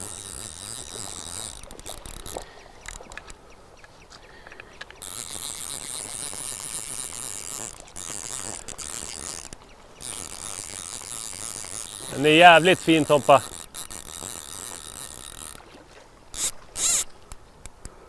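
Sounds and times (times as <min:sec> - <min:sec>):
fishing reel ratchet rattling: 0:00.0 - 0:03.4, 0:04.6 - 0:15.7, 0:16.3 - 0:17.1.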